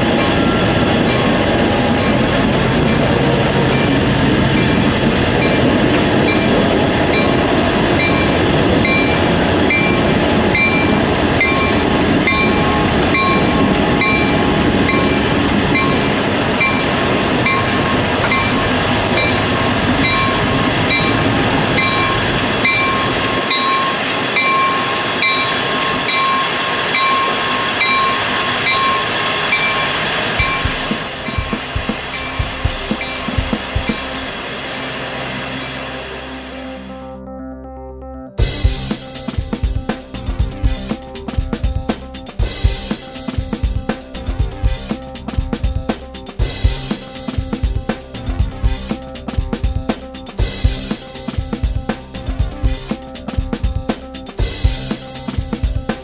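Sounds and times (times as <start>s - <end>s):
locomotive bell ringing: 0.0s - 37.2s, 38.4s - 56.0s
locomotive engine and rail rumble: 0.0s - 37.6s, 38.3s - 56.0s.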